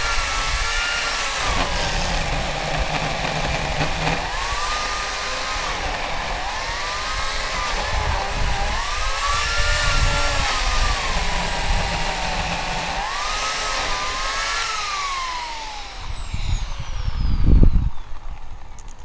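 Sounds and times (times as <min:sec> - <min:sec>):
electric chainsaw cutting wood: 0:00.0 - 0:18.6.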